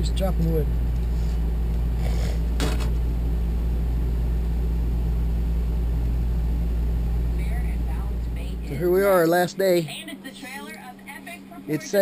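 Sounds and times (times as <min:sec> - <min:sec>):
generator droning: 0:00.0 - 0:12.0.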